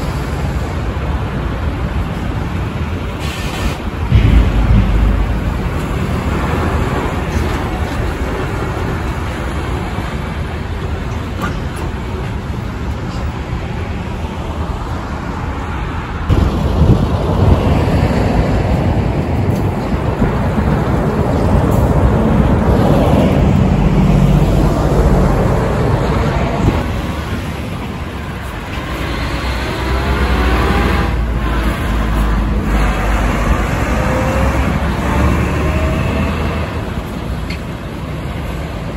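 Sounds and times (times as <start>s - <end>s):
diesel trucks driving past: 0.0s - 38.9s
road and tyre noise: 0.0s - 38.9s.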